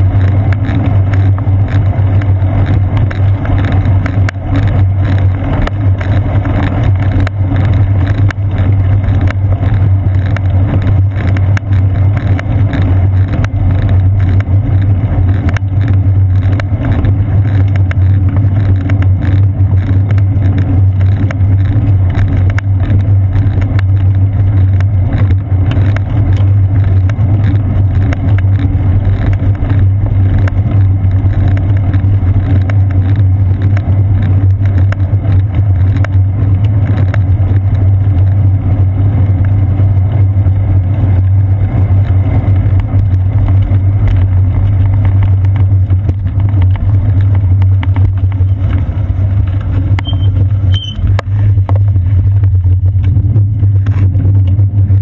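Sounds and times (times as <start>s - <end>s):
bicycle rumble on paved path: 0.0s - 55.0s.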